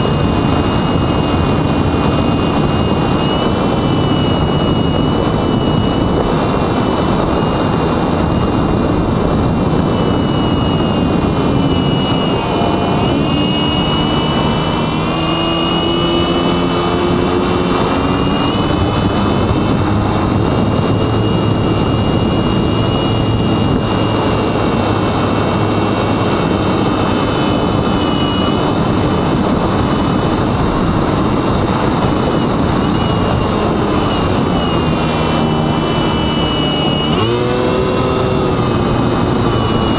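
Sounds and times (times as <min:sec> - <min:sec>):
electric motor propeller whine: 0:00.0 - 0:39.9
wind noise on microphone: 0:00.0 - 0:39.9.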